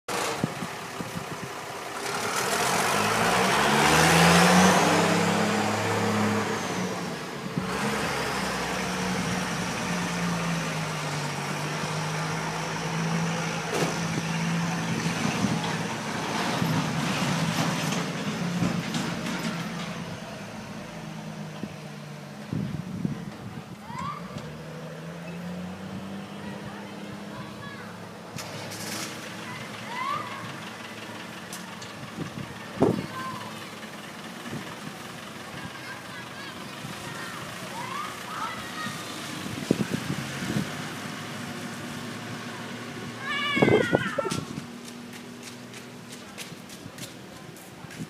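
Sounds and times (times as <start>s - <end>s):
truck engines pulling away: 0.1s - 48.0s.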